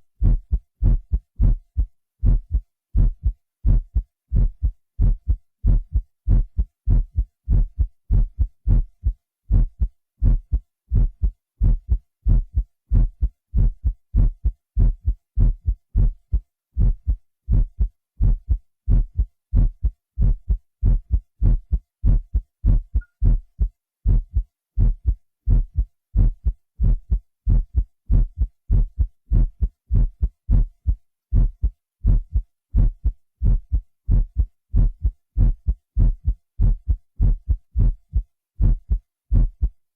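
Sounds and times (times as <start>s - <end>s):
deep heartbeat thumps: 0.2s - 39.8s.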